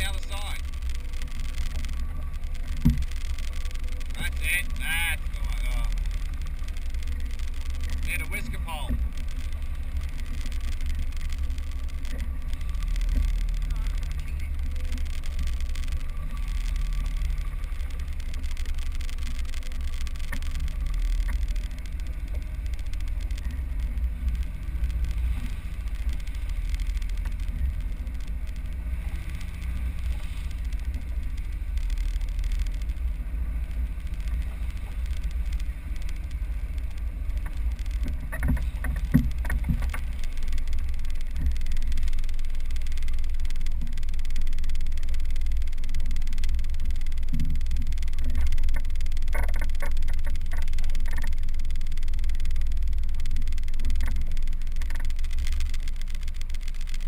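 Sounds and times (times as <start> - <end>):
wind and water rumble: 0.0 - 57.0.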